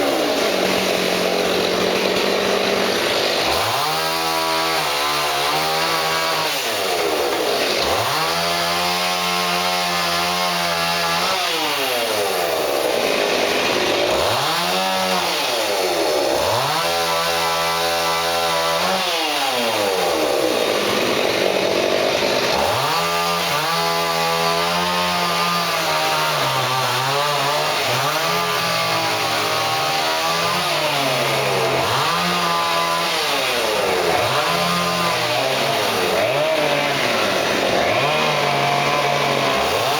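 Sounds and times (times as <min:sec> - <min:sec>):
chainsaw revving through wood: 0:00.0 - 0:39.9.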